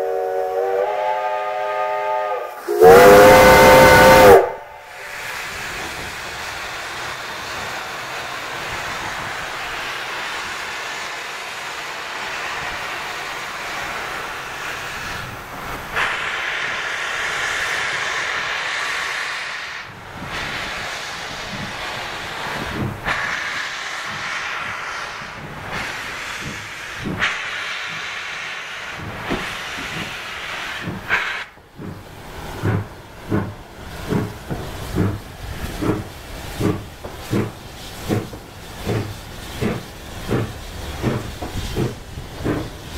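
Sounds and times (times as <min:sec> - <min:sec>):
steam locomotive exhaust chuffs: 0:00.0 - 0:42.9
steam locomotive hissing: 0:00.0 - 0:42.9.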